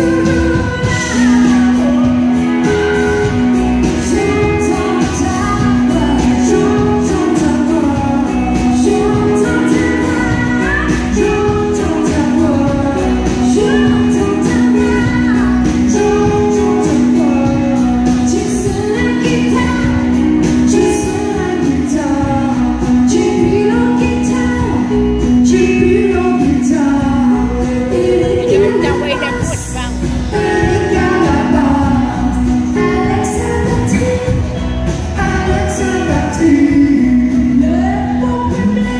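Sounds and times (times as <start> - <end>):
live country band with singing: 0.0 - 38.9.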